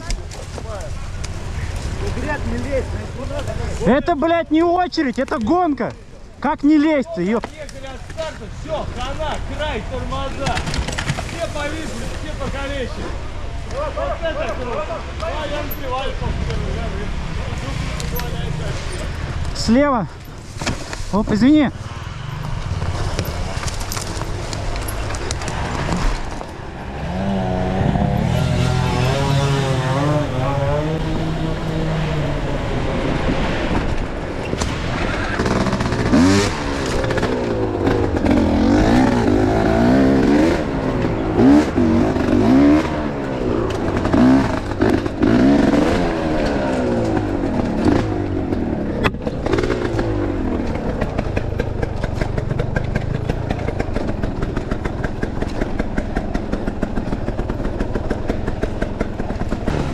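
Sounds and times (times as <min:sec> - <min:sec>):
motorcycle engine revving: 0:08.2 - 0:20.3, 0:21.5 - 0:59.9.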